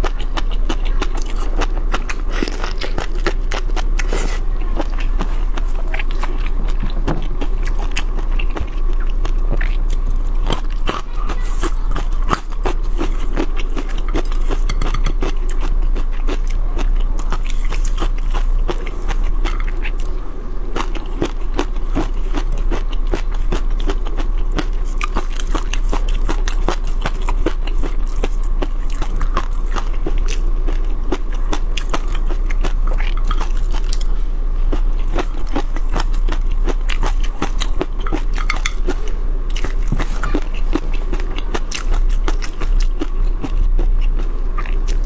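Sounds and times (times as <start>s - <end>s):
chewing: 0.0s - 45.0s
low hum: 0.0s - 45.0s.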